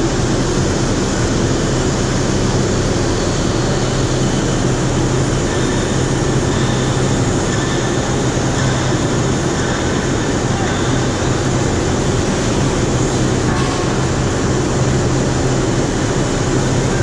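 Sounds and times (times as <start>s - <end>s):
machinery low hum: 0.0s - 17.0s.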